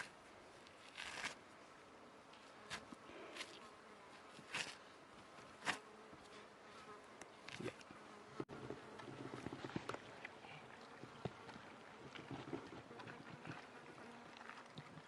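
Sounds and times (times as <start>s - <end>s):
faint insect buzzing: 0.9s - 14.6s.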